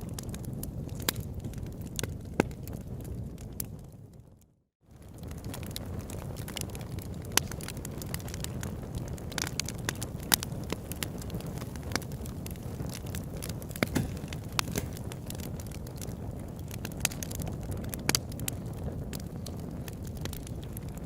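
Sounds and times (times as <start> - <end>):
campfire crackling: 0.0 - 4.2, 4.9 - 21.0.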